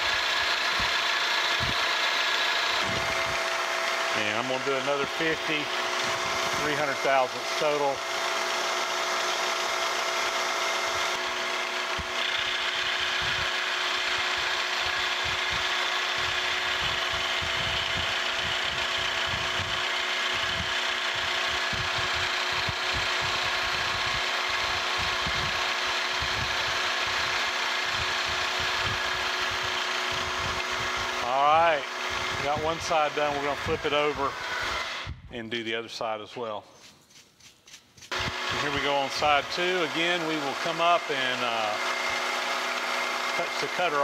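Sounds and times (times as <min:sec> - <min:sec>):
milling machine cutting metal: 0:00.0 - 0:35.1, 0:38.1 - 0:44.0
steady motor hum: 0:00.0 - 0:35.3, 0:38.0 - 0:44.0.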